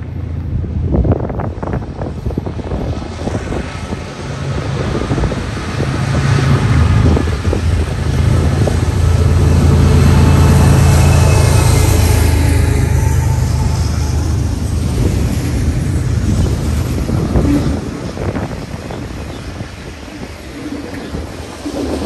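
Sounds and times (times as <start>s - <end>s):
locomotive engine rumble: 0.0s - 22.0s
wind buffeting microphone: 0.0s - 22.0s.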